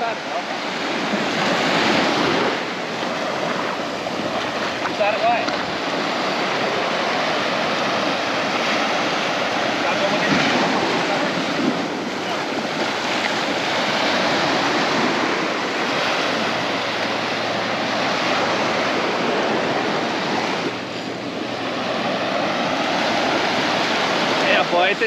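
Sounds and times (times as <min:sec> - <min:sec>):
surf washing onto beach: 0:00.0 - 0:25.0
wind on microphone: 0:00.0 - 0:25.0.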